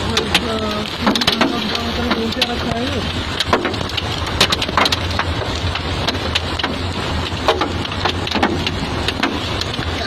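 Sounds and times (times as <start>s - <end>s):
hail ticking on hard surfaces: 0.0s - 10.0s
heavy rain: 0.0s - 10.0s.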